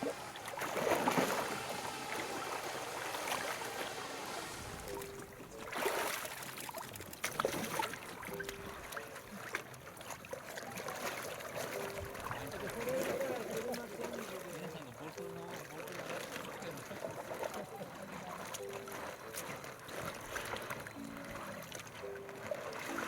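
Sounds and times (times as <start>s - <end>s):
water splashing and sloshing: 0.0s - 23.0s.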